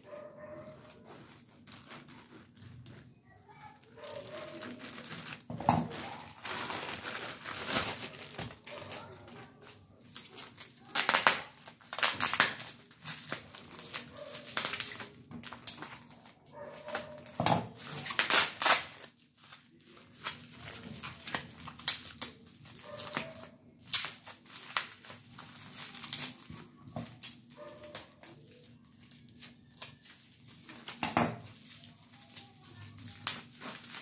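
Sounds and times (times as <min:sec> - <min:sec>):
plastic wrapping crinkling: 0:00.0 - 0:34.0.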